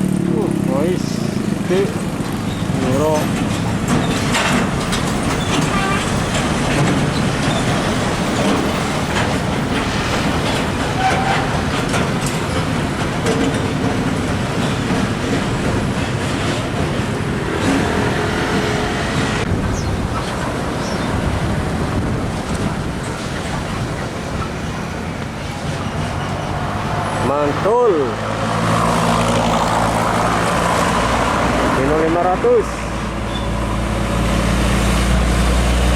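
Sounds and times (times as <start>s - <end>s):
heavy trucks and traffic passing: 0.0s - 35.9s.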